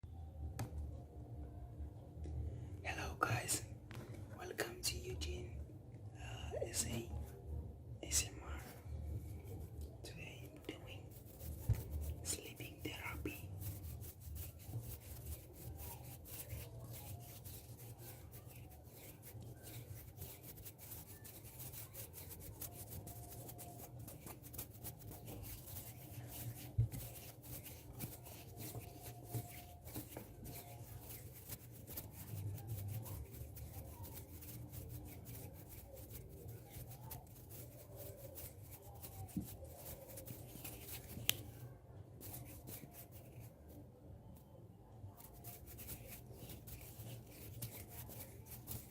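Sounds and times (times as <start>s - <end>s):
hands rubbing near microphone: 8.1s - 43.8s, 45.1s - 48.9s.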